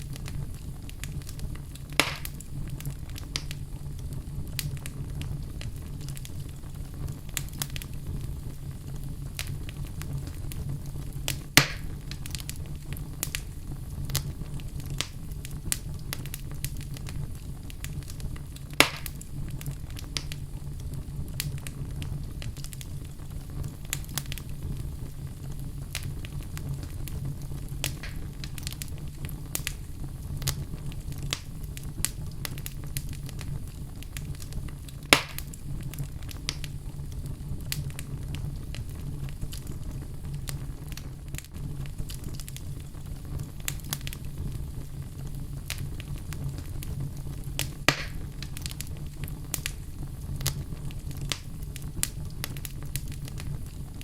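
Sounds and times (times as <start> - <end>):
fire crackles and pops: 0.0 - 54.0
low rumble of flames: 0.0 - 54.0.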